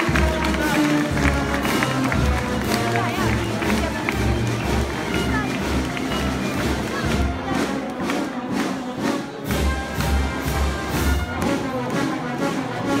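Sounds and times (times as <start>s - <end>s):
procession band music: 0.0s - 13.0s.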